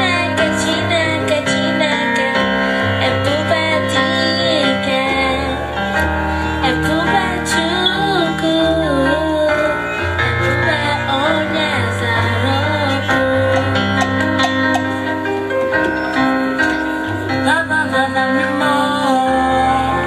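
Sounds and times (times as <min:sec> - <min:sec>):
song with sung melody and keyboard: 0:00.0 - 0:20.0.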